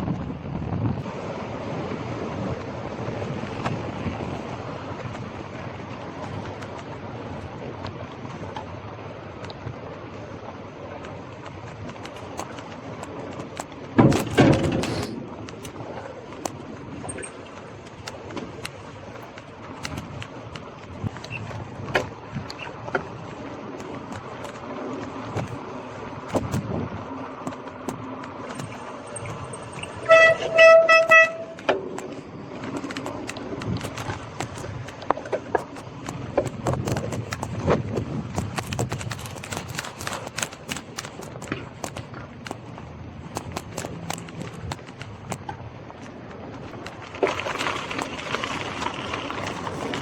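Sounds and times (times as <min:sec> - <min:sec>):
bike tyre road noise: 0:00.0 - 0:50.0
bike clicks and knocks: 0:03.4 - 0:10.2, 0:10.9 - 0:50.0.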